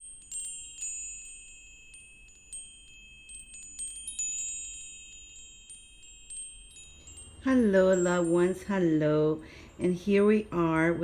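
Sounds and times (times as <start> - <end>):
metal wind chimes tinkling: 0.0 - 11.0.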